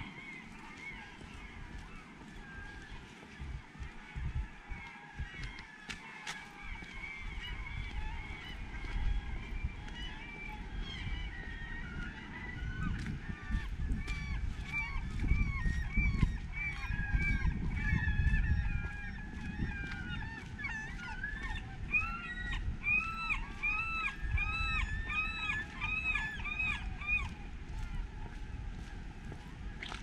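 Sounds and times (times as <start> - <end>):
many birds calling: 0.0 - 30.0.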